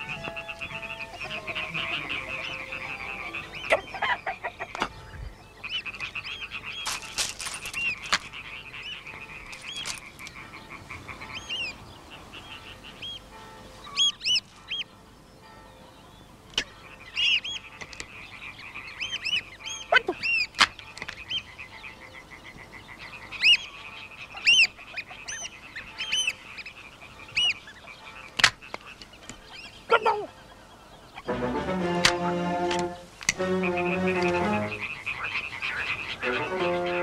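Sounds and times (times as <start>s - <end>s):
bird trill: 0.0s - 31.9s, 32.8s - 37.0s
birds chirping: 0.0s - 37.0s.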